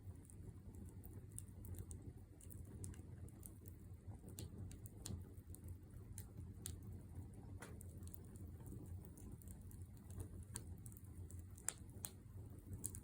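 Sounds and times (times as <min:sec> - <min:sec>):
low steady fire rumble: 0:00.0 - 0:13.0
campfire crackling and popping: 0:00.1 - 0:13.0.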